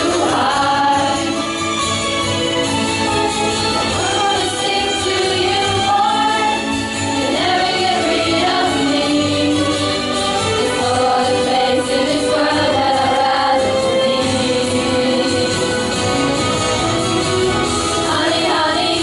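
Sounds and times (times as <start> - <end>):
young singers singing together: 0.0 - 1.8, 3.7 - 16.3, 18.0 - 19.0
musical accompaniment with steady beat: 0.0 - 19.0.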